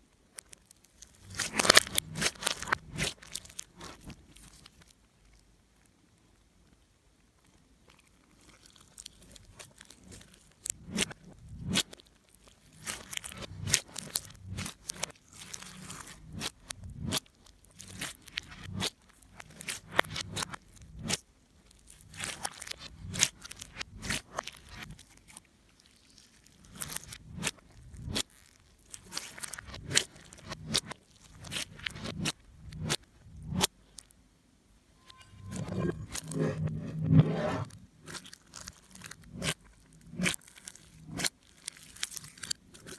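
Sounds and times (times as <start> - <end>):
wet slime squishes: 0.3 - 5.0, 7.8 - 34.1, 38.0 - 42.9.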